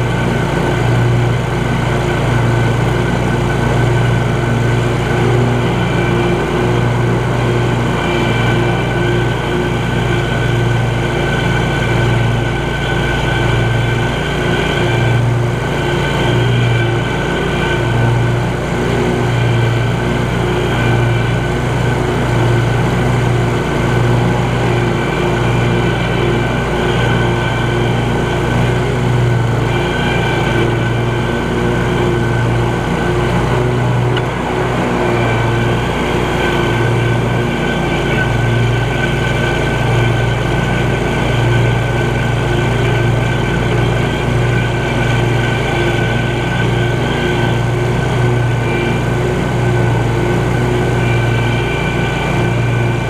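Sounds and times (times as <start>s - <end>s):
riding mower engine running: 0.0s - 53.0s.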